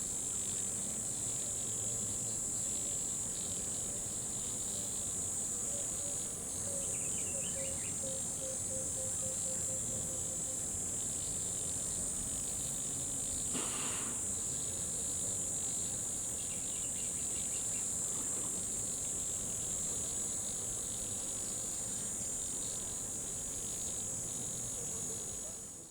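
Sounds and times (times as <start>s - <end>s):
crickets chorus: 0.0s - 25.9s.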